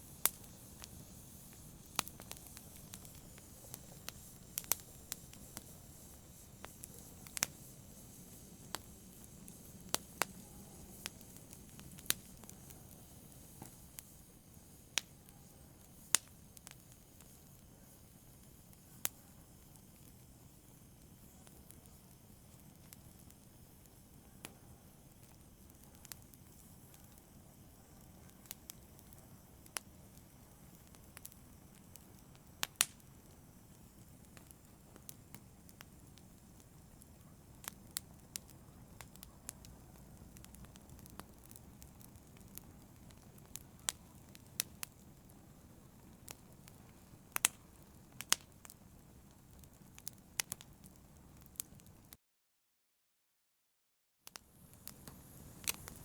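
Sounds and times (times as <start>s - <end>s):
embers hissing: 0.0s - 51.8s, 54.4s - 56.0s
fire crackles and pops: 0.0s - 52.2s, 54.3s - 56.0s.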